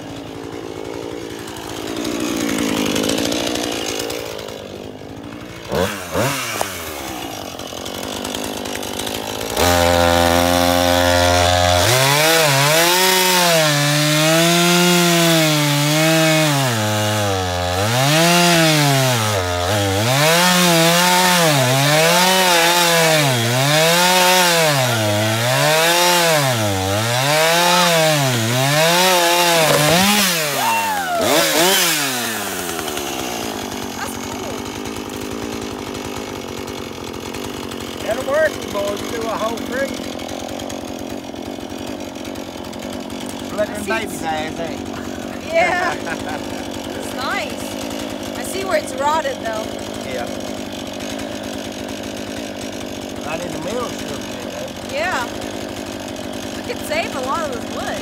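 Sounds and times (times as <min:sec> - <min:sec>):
chainsaw cutting log: 0:00.0 - 0:58.0
chainsaw running and revving: 0:00.0 - 0:58.0.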